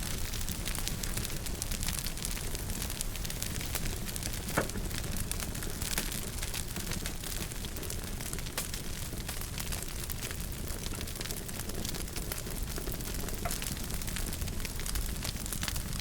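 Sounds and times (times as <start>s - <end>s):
fire crackling: 0.0s - 16.0s
fire popping: 0.0s - 16.0s
fire rumbling: 0.0s - 16.0s.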